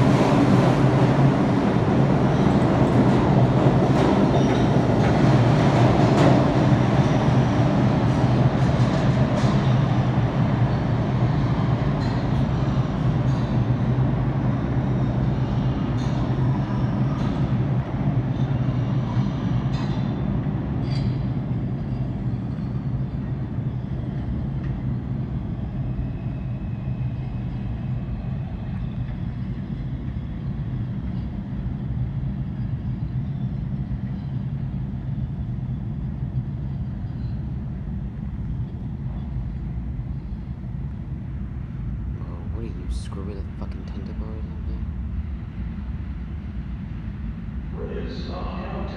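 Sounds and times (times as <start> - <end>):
subway train rumbling in tunnel: 0.0 - 48.9.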